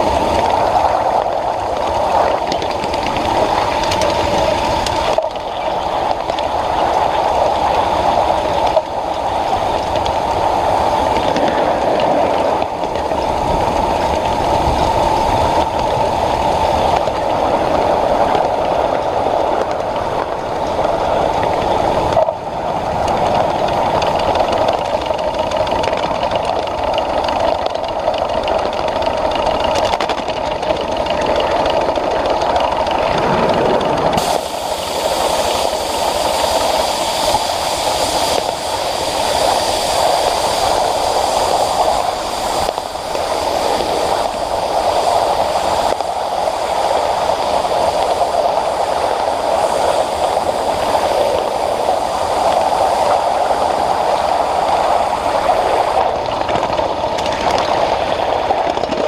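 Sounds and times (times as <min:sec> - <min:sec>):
high steam hiss: 0:00.0 - 0:27.3, 0:34.1 - 0:56.4
steam locomotive working: 0:00.0 - 0:59.0
wheels rumbling on track: 0:00.0 - 0:59.0.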